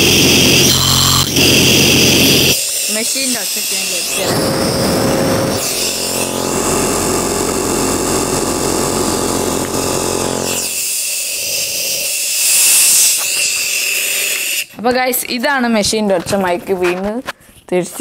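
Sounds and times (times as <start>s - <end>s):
nebulizer motor humming: 0.0s - 14.7s.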